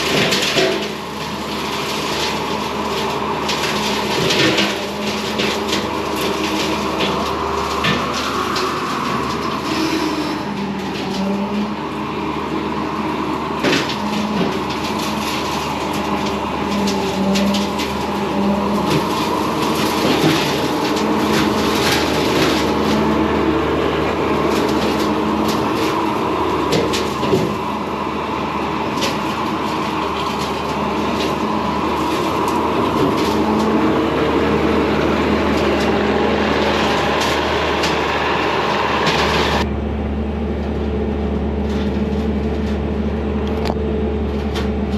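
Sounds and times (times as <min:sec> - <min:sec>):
branches cracking: 0:00.0 - 0:12.2, 0:12.8 - 0:39.7
diesel engine under load: 0:00.0 - 0:44.9.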